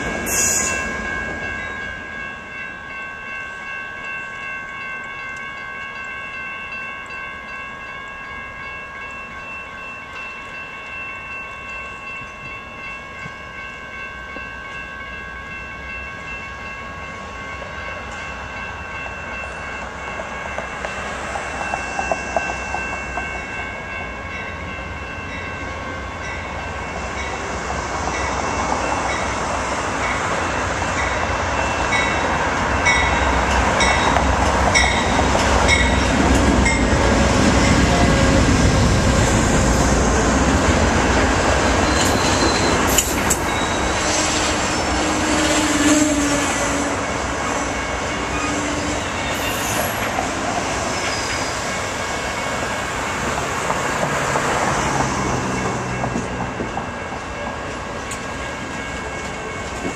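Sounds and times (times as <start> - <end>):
diesel locomotives passing: 0.0 - 59.9
train bell ringing: 0.0 - 59.9.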